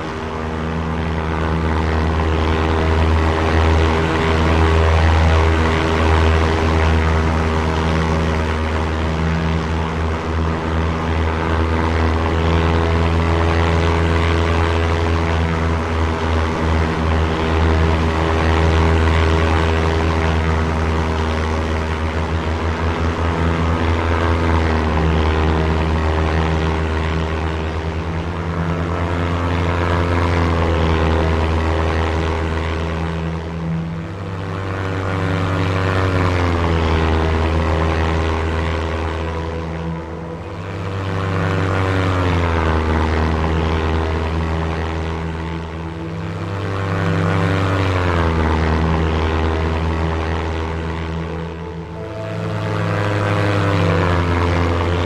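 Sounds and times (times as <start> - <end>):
propeller planes flying past: 0.0 - 55.0.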